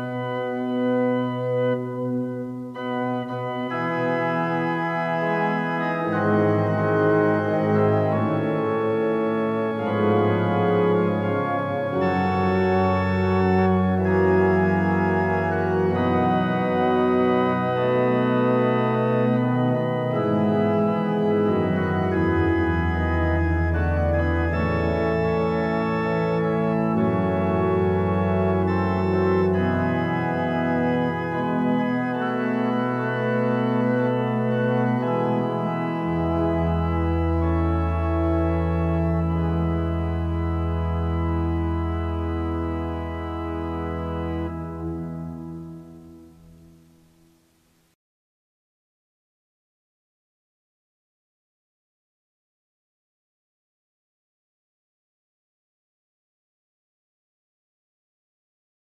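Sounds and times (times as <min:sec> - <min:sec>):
organ playing chords: 0:00.0 - 0:47.5.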